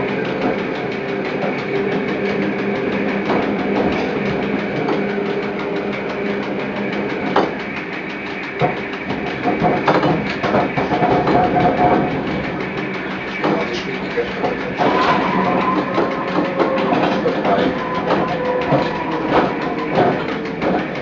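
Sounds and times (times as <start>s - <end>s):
electric railcar motor hum: 0.0s - 21.0s
wheels clicking over rails: 0.0s - 21.0s.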